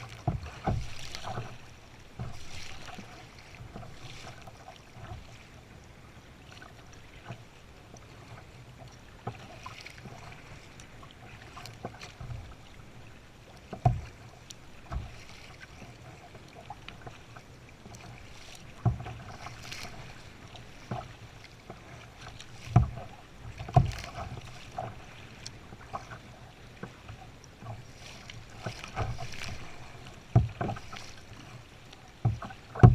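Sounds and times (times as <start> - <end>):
paddle splashing in water: 0.0 - 32.9.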